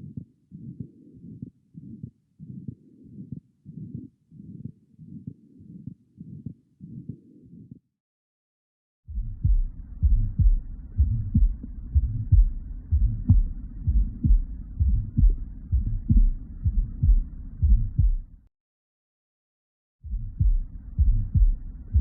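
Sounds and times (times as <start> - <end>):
heartbeat through stethoscope: 0.0 - 7.8, 9.1 - 18.4, 20.0 - 22.0.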